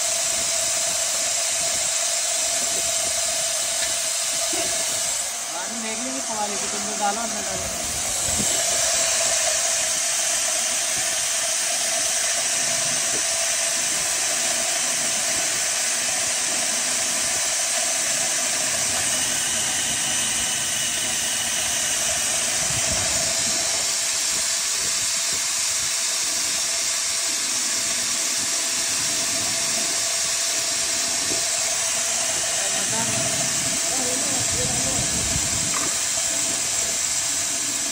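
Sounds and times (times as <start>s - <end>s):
feed grinder running: 0.0s - 37.9s.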